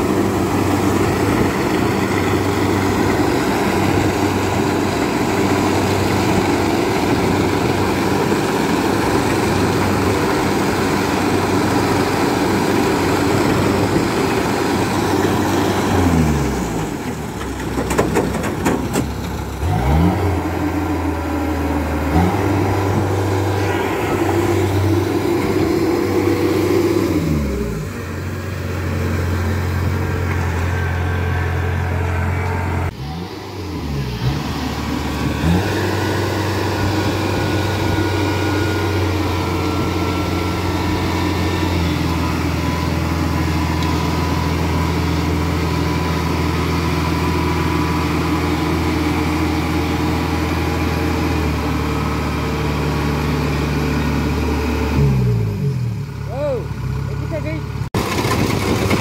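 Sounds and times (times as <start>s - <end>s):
harvester diesel engine running: 0.0s - 59.0s.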